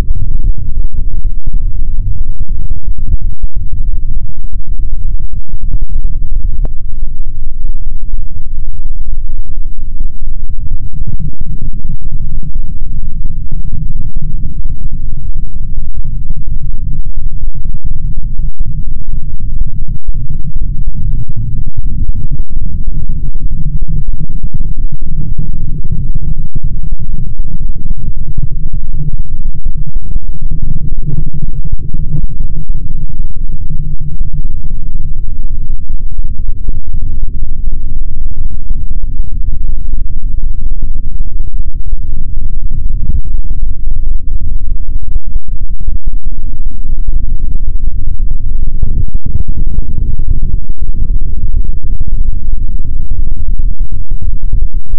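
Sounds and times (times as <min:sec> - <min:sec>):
distorted electronic bass rumble: 0:00.0 - 0:54.9.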